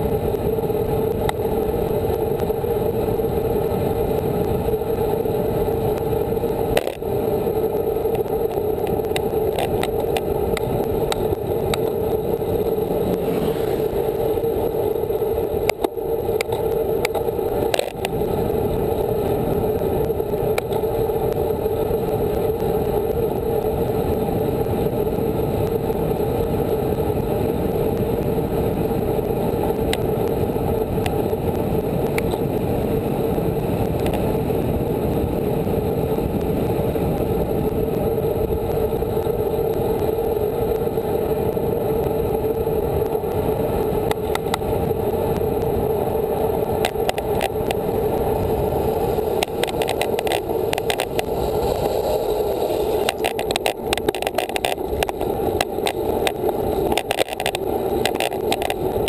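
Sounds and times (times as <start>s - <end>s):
bicycle tyres on paved road: 0.0s - 59.0s
wind on microphone: 0.0s - 59.0s.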